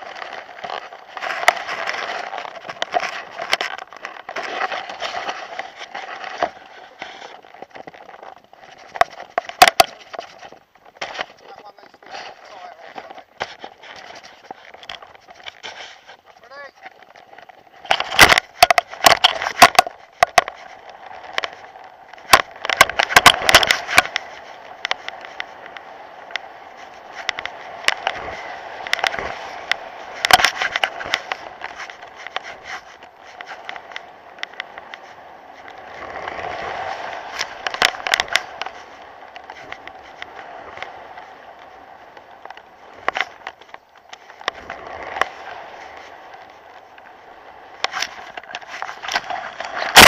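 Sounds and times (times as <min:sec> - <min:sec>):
camera rattling against kite frame: 0:00.0 - 0:50.0.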